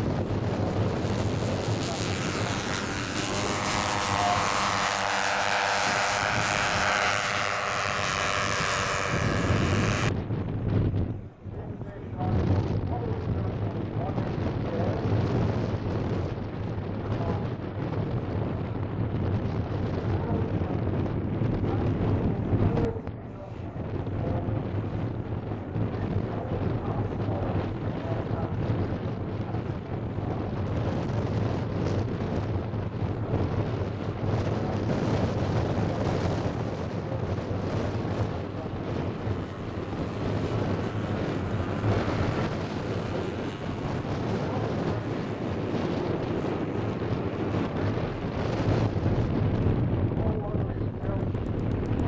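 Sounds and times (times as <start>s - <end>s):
model plane engines droning: 0.0s - 10.5s, 19.1s - 52.0s
wind rumbling on microphone: 0.0s - 52.0s.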